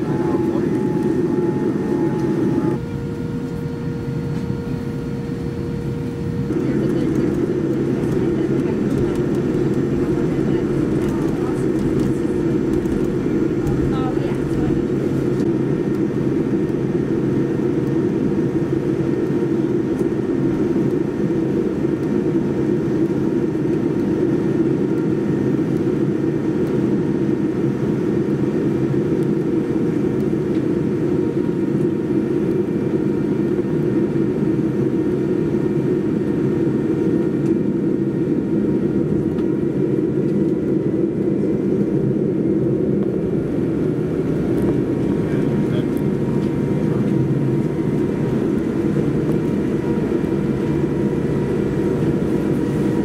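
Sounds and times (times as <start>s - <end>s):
airplane cabin engine hum: 0.0s - 53.0s.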